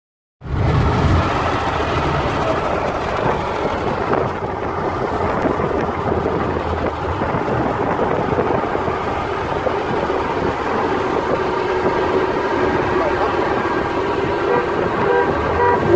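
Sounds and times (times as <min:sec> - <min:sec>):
engine tyre and wind noise in car: 0:00.4 - 0:15.9.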